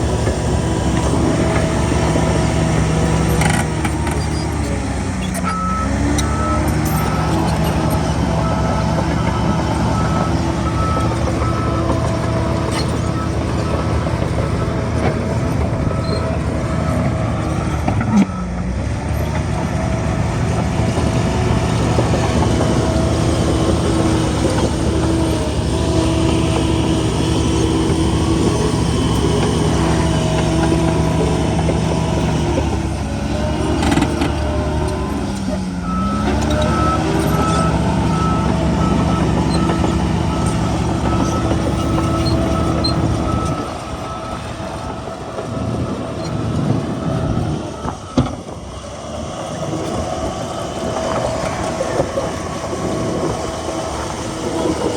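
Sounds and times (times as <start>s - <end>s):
bulldozer diesel engine: 0.0s - 54.9s
reversing alarm beeping: 5.4s - 18.7s, 20.5s - 54.9s.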